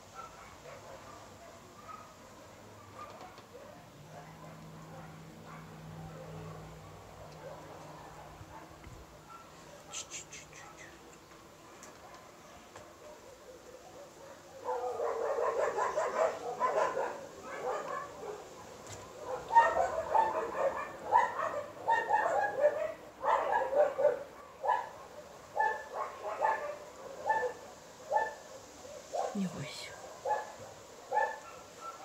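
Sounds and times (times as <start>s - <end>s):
dogs barking: 0.0s - 10.8s, 11.7s - 32.0s.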